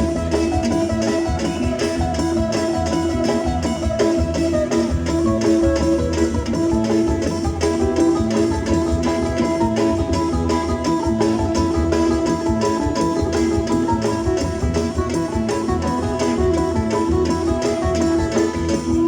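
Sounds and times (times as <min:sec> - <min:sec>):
live band over loudspeakers: 0:00.0 - 0:19.0
plucked guitar: 0:00.0 - 0:19.0
steady beat: 0:00.0 - 0:19.0.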